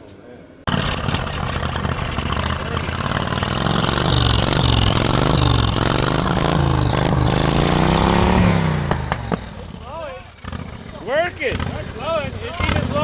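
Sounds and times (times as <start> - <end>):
lawnmower engine revving: 0.7 - 13.0.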